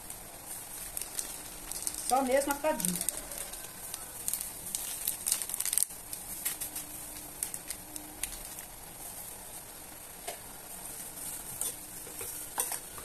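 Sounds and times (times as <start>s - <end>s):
plastic glove crinkling: 0.0s - 9.8s, 10.6s - 13.0s
meat sizzling: 0.0s - 13.0s.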